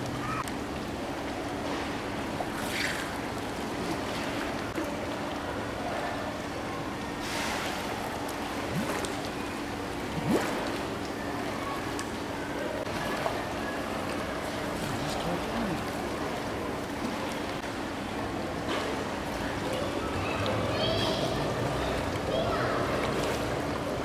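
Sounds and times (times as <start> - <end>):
steady low hum: 0.0 - 19.7
water splashing in a pool: 0.0 - 24.0.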